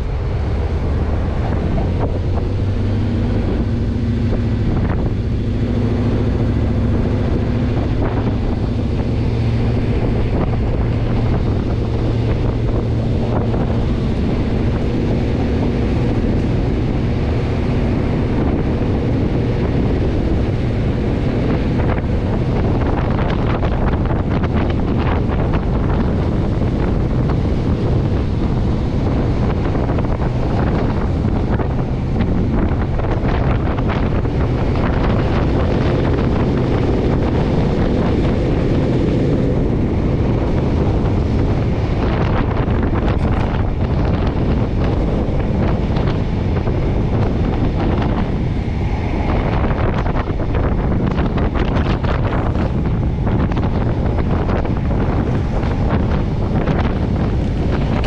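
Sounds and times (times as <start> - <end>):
train rumbling on track: 0.0 - 58.0
wind buffeting microphone: 0.0 - 58.0.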